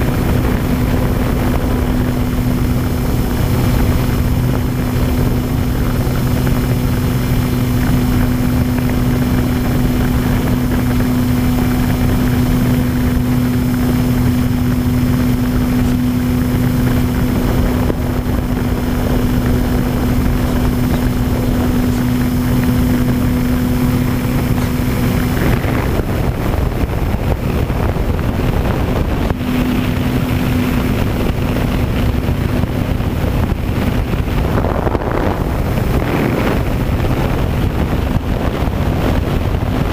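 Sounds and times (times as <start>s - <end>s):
model plane electric motor humming: 0.0s - 35.4s
wind over microphone: 0.0s - 39.9s.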